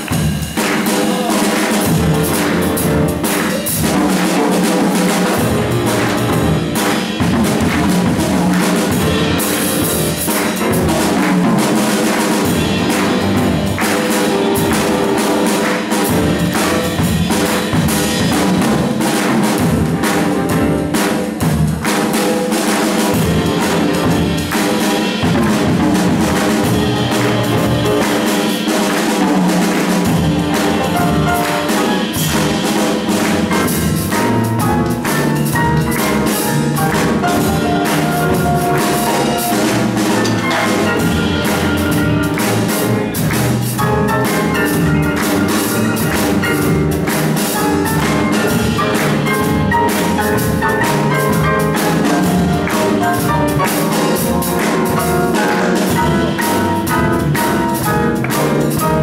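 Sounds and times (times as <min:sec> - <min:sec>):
drum kit with cymbals: 0:00.0 - 0:59.0
grand piano: 0:00.0 - 0:59.0
plucked double bass: 0:01.4 - 0:22.1, 0:23.0 - 0:59.0.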